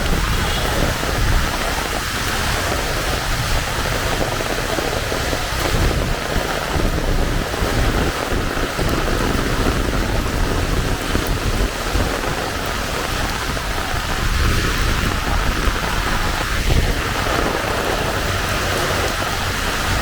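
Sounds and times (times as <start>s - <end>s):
heavy rain falling: 0.0s - 20.0s
wind buffeting microphone: 0.0s - 20.0s.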